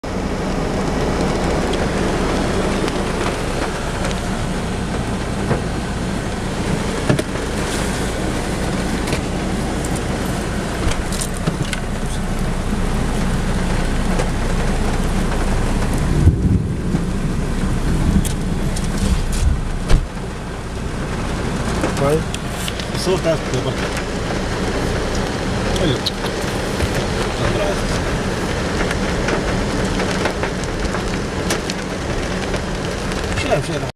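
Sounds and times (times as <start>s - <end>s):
constant low rumble: 0.0s - 33.9s
steady rain falling: 0.0s - 33.9s.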